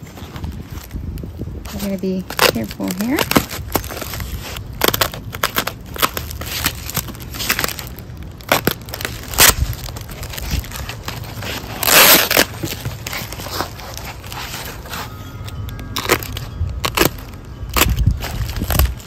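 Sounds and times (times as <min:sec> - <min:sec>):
plastic packaging crackling: 0:00.0 - 0:19.0.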